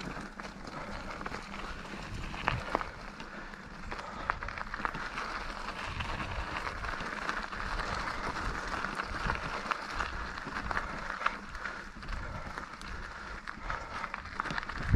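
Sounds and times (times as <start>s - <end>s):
bike rattles and knocks: 0.0s - 14.9s
bike tyre rumble on dirt: 0.0s - 14.9s.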